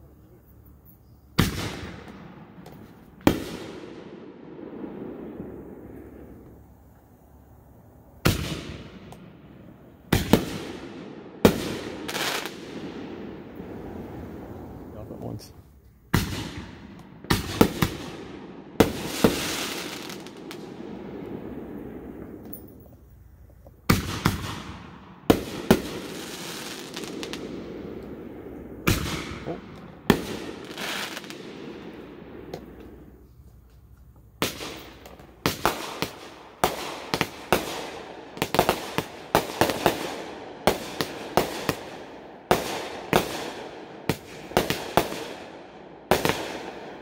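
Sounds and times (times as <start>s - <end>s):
firework shells bursting with echo: 1.0s - 7.3s, 8.0s - 47.0s.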